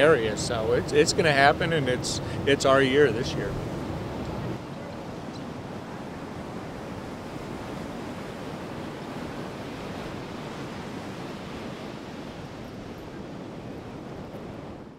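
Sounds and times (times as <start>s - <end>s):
small waves breaking on beach: 0.0s - 14.9s.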